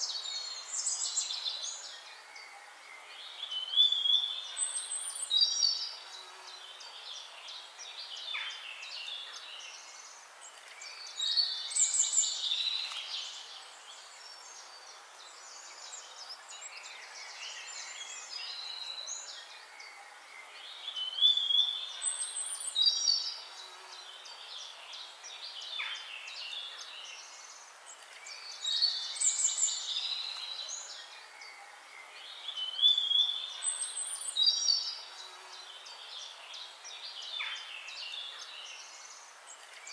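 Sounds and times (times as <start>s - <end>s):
birds chirping and trilling: 0.0s - 39.9s
steady background hiss: 0.0s - 39.9s.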